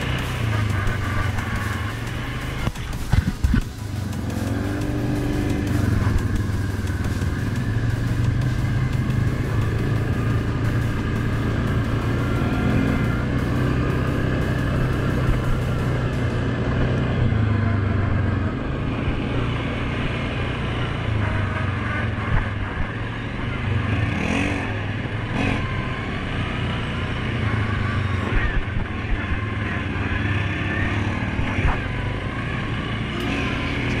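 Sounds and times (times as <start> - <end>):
atv engine revving: 0.0 - 34.0.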